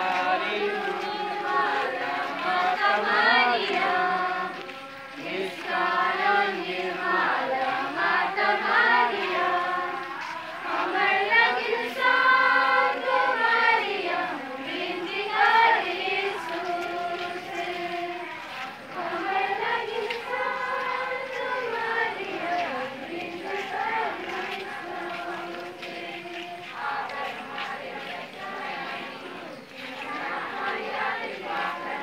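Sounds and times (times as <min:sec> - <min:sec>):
crowd singing a hymn: 0:00.0 - 0:32.0.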